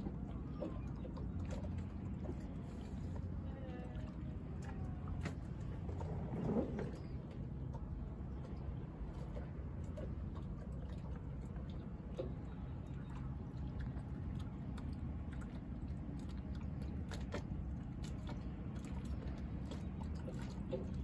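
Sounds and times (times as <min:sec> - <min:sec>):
generators humming: 0:00.0 - 0:21.0.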